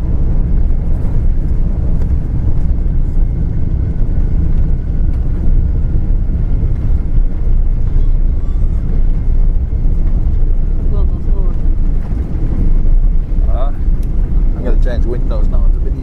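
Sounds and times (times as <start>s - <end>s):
airplane cabin rumble: 0.0s - 16.0s
faint whine: 0.0s - 16.0s.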